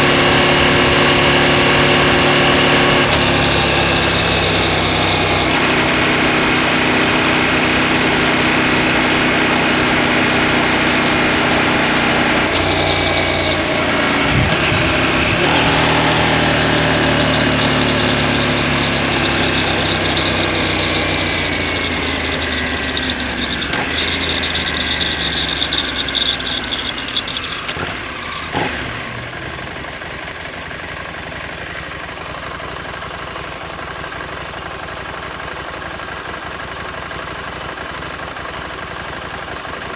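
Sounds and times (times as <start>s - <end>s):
motorcycle engine and chain drive: 0.0s - 39.9s.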